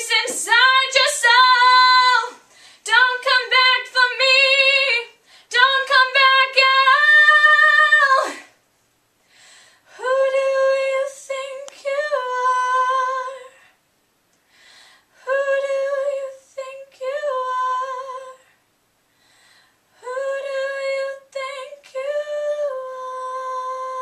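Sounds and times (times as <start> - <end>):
girl singing wordless notes: 0.0 - 8.6, 9.8 - 13.8, 15.0 - 18.7, 19.8 - 24.0.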